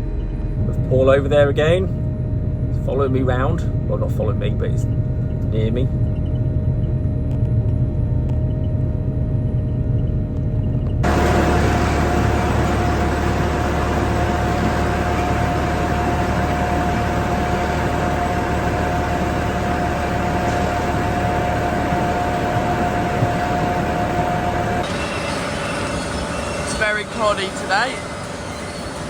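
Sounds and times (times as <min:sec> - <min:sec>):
harvester machinery humming and whining: 0:00.0 - 0:29.0.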